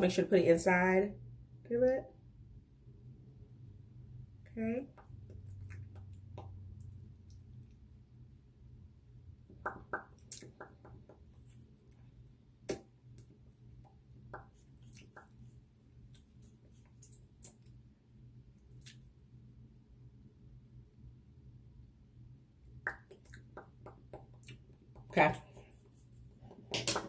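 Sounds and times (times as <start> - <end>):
faint low hum: 0.0 - 26.6.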